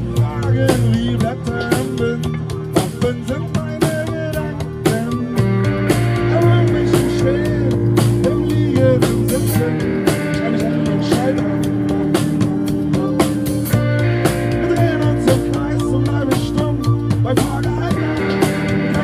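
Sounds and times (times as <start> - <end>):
drum kit: 0.0 - 19.0
electric guitar: 0.0 - 19.0.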